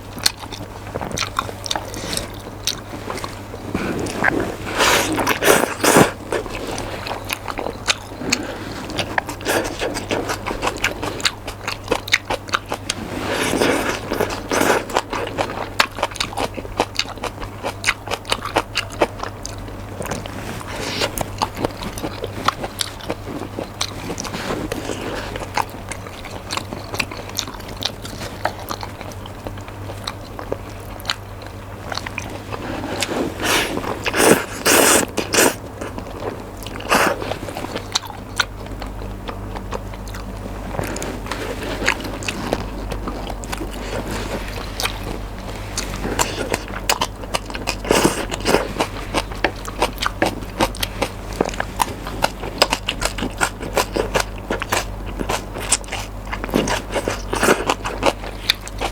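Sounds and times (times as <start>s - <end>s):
person chewing noodles: 0.0s - 58.9s.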